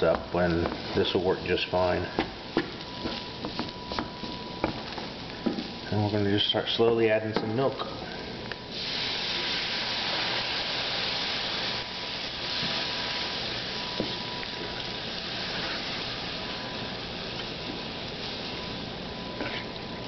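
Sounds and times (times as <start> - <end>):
milk sizzling in a hot pan: 0.0 - 7.2, 8.0 - 20.0.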